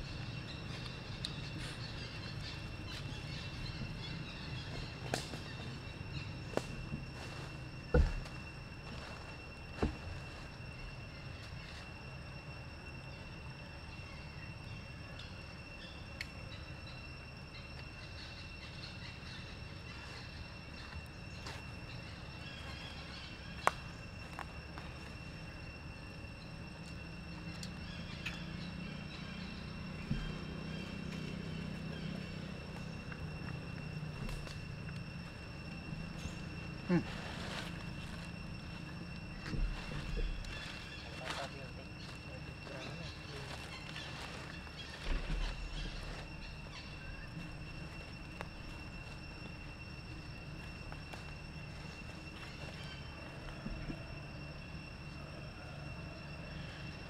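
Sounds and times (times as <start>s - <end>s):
high insect drone: 0.0s - 57.0s
low hum: 0.0s - 57.0s.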